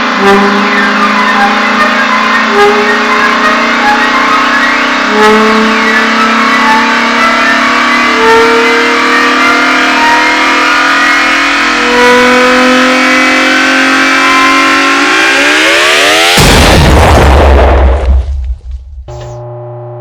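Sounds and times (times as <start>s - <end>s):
layered air horn blasts: 0.0s - 16.2s.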